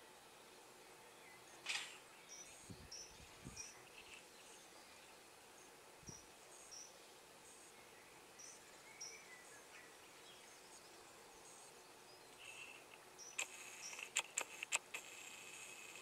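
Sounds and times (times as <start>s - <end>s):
distant small birds chirping: 0.0s - 16.0s.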